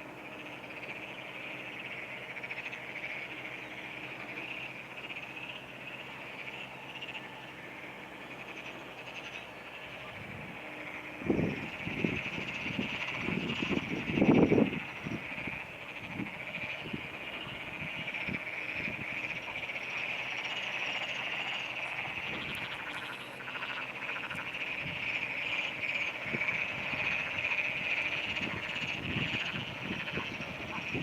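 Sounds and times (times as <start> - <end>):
frogs trilling in chorus: 0.0 - 31.0.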